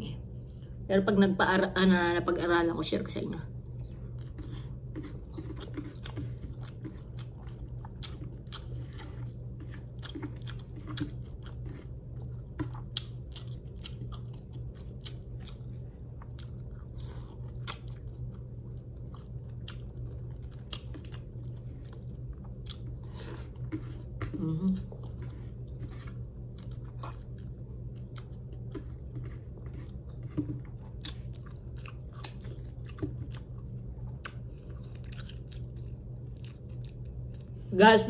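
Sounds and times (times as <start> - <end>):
steady low hum: 0.0 - 38.0
person chewing food: 3.7 - 37.6.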